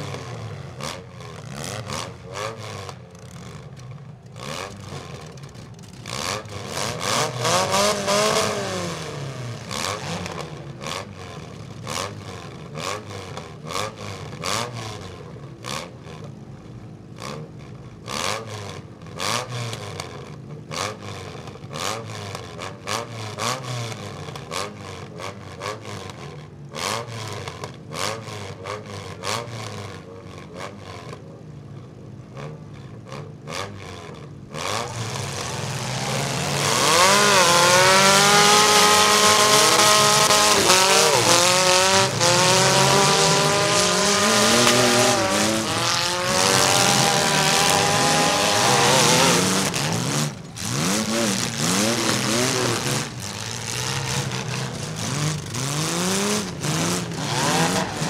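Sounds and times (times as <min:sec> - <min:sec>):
car engines idling and revving: 0:00.0 - 0:58.0.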